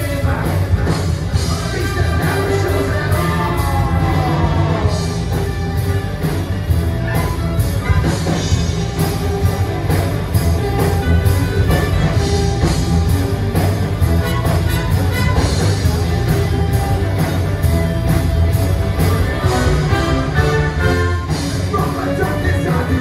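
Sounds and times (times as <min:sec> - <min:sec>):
bass guitar: 0:00.0 - 0:23.0
distorted electric guitars: 0:00.0 - 0:23.0
drum kit: 0:00.0 - 0:23.0.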